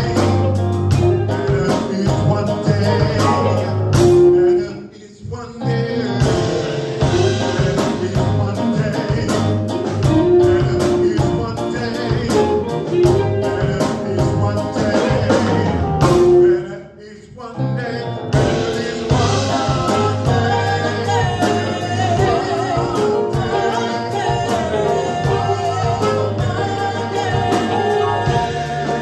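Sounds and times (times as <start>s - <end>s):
gospel band playing: 0.0s - 29.0s
singing: 0.0s - 29.0s.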